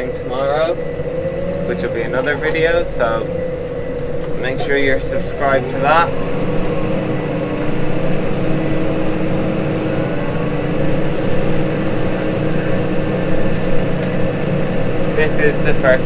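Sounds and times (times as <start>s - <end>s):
tractor engine drone: 0.0s - 16.0s.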